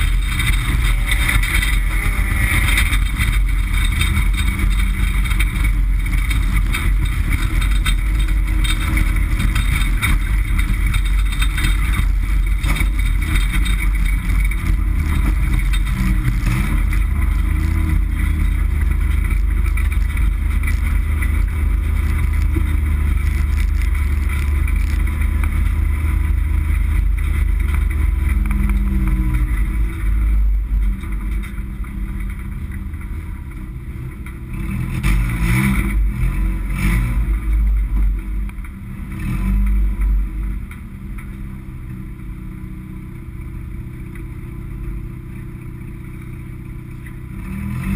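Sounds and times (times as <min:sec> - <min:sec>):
race car engine drone: 0:00.0 - 0:47.9.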